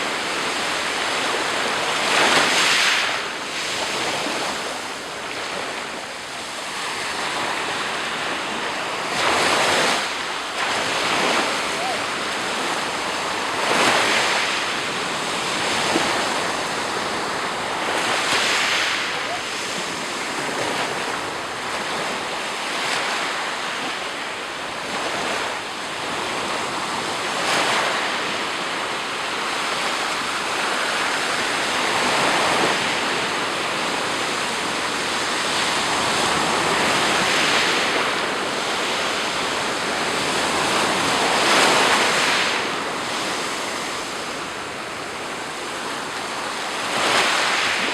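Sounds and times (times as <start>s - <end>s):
waves breaking on shore: 0.0s - 47.9s.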